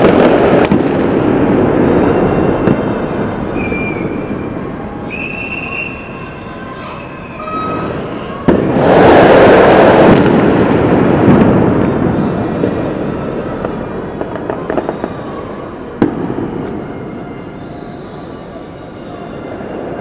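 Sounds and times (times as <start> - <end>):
fireworks and firecrackers: 0.0 - 20.0
crowd cheering: 1.5 - 20.0.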